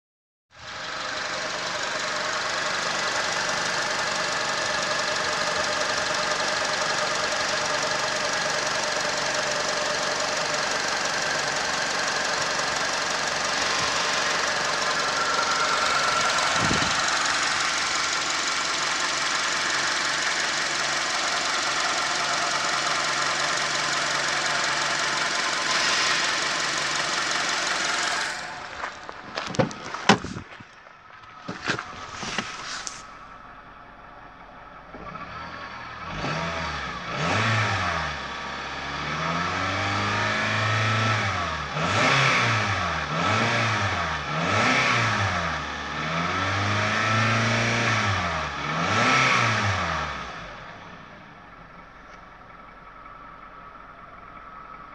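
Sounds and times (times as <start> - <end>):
car engine running: 0.6 - 54.9.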